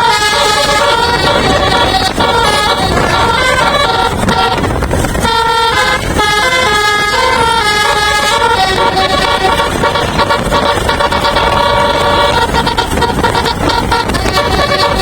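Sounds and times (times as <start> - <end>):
bus musical air horn: 0.0 - 15.0
low rumble: 0.0 - 15.0.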